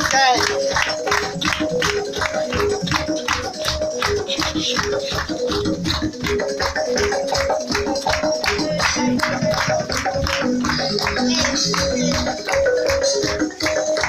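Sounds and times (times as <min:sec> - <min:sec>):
loud dance music: 0:00.0 - 0:14.0.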